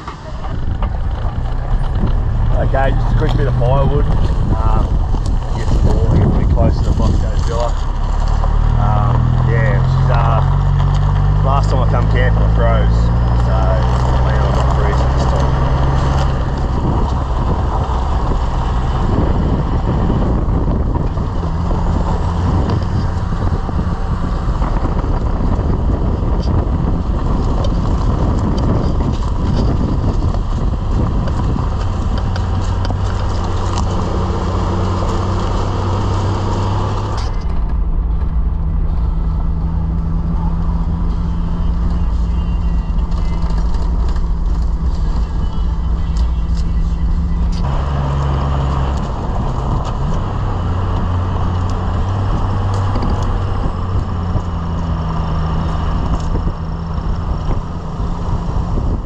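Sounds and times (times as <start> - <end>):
tyre and road noise: 0.0 - 59.0
vehicle engine hum: 0.0 - 59.0.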